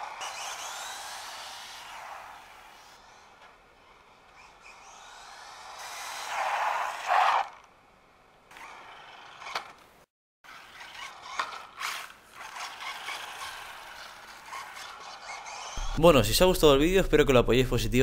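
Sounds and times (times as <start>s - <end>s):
toy car motor whirring: 0.0s - 7.7s, 8.5s - 15.8s
drivetrain and tyres clicking: 0.0s - 15.9s.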